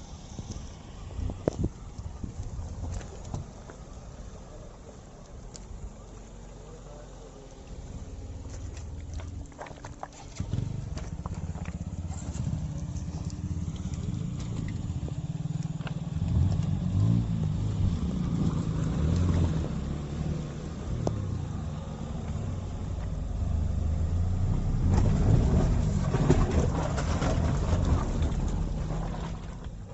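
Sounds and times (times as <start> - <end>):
car engine and road rumble: 0.0 - 29.9.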